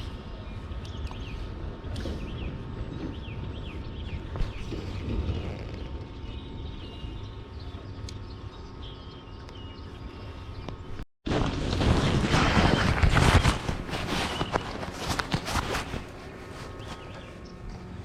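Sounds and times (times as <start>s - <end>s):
small birds chirping: 0.0s - 11.0s, 13.9s - 18.0s
wind rumble: 0.0s - 18.0s.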